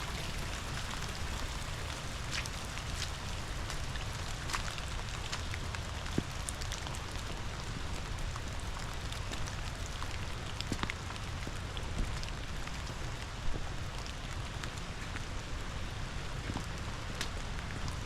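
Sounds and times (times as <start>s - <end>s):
rain falling: 0.0s - 18.0s
raindrops tapping close by: 0.0s - 18.0s.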